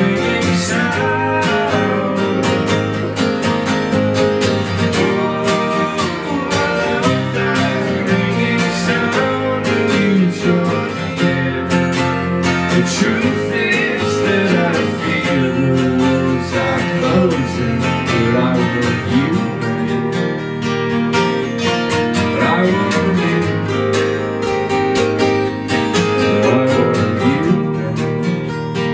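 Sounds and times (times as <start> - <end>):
acoustic guitars strummed: 0.0 - 28.9.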